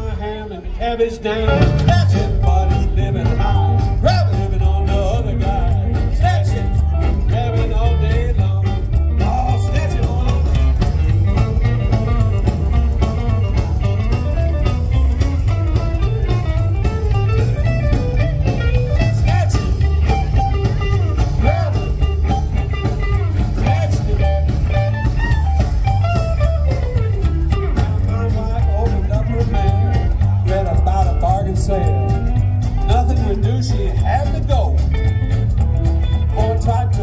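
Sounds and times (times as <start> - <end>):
electric guitar: 0.0 - 37.0
rockabilly band playing: 0.0 - 37.0
upright bass line: 0.0 - 37.0.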